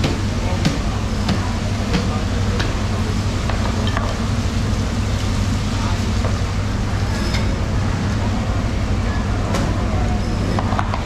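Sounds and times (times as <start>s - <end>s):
faint voices: 0.0s - 11.0s
low machinery hum: 0.0s - 11.0s.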